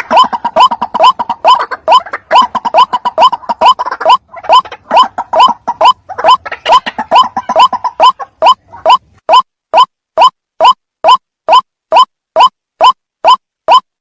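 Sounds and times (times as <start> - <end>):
waterhen croaking call: 0.0 - 13.9.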